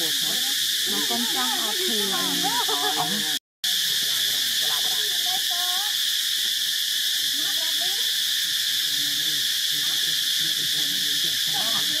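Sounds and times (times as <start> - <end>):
faint wavering calls: 0.0 - 12.0
high-pitched insect chorus: 0.0 - 12.0.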